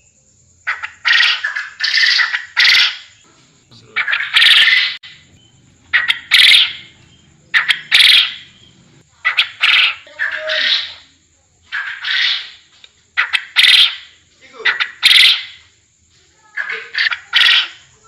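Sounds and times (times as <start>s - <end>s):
quail calling: 0.7s - 11.1s, 11.7s - 15.6s, 16.5s - 18.0s.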